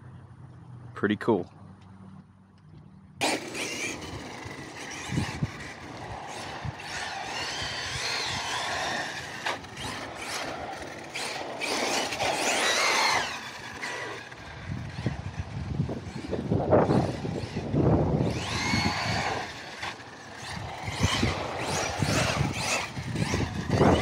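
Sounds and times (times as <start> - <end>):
electric motor whining: 3.2 - 24.0
rushing tyre and air noise: 3.2 - 24.0.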